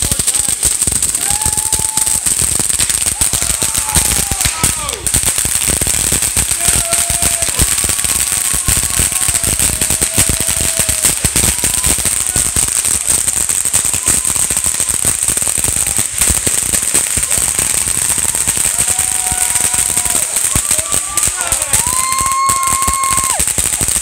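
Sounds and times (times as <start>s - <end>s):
firework fountain hissing and crackling: 0.0s - 24.0s.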